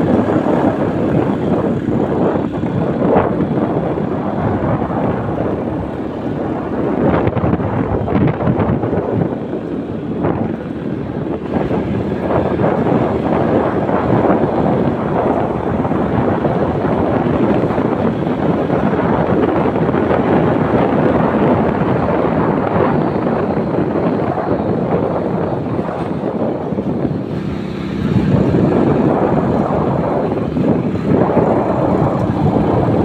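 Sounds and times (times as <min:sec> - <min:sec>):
motorbike engine running: 0:00.0 - 0:33.0
wind rushing over microphone: 0:00.0 - 0:33.0.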